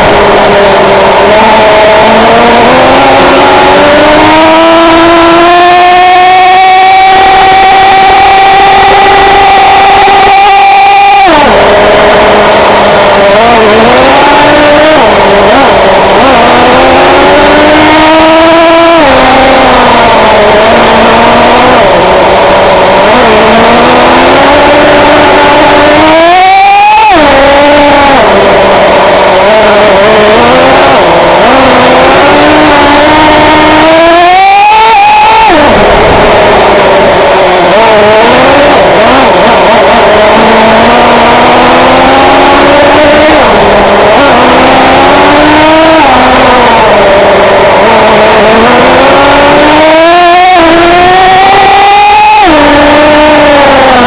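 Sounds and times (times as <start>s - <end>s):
small nitro engine revving: 0.0s - 54.0s.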